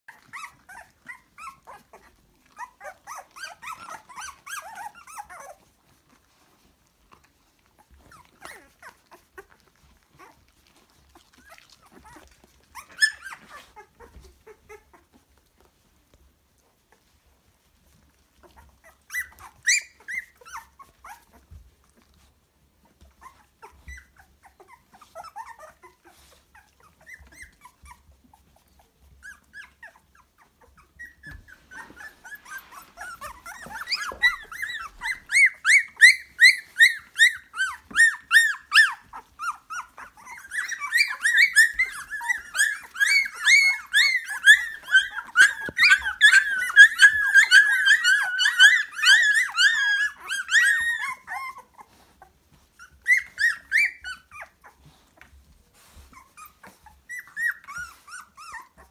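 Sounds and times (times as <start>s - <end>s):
puppies whining and squealing: 0.0s - 58.9s.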